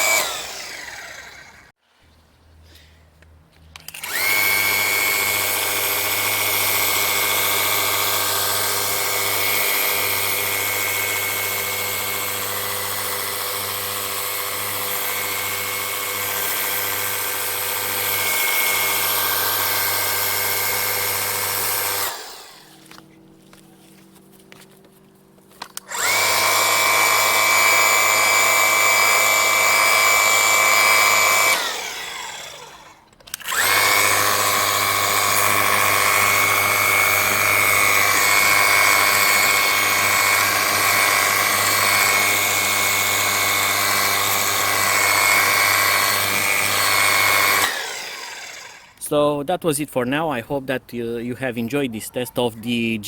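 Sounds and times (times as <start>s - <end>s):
pressure washer motor whine: 0.0s - 1.7s, 3.8s - 23.1s, 25.6s - 49.0s.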